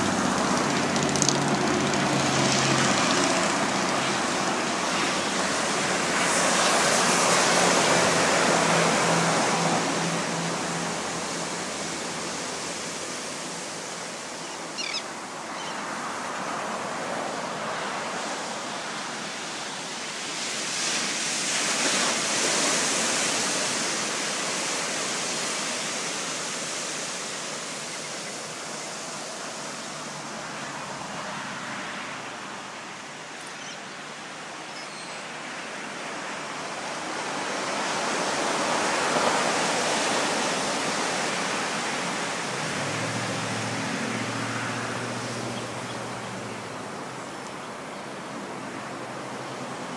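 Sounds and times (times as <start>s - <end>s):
ocean surf breaking: 0.0s - 49.9s.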